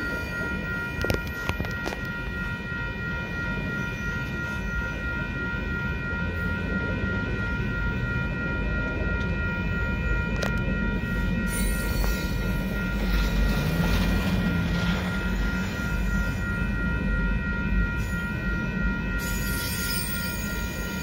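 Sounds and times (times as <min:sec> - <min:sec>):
crossing warning bell ringing: 0:00.0 - 0:21.0
freight train wheels rumbling on rail: 0:00.0 - 0:21.0.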